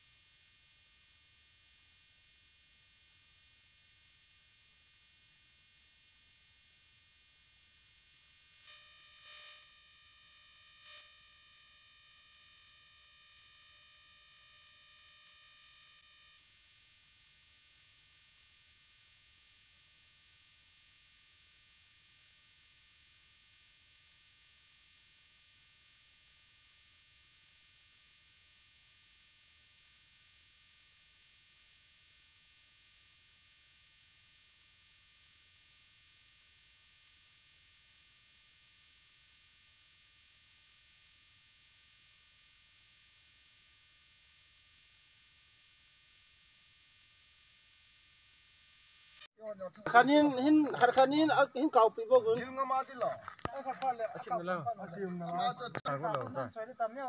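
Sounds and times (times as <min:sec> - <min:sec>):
faint electronic hiss and buzz: 0:00.0 - 0:57.0.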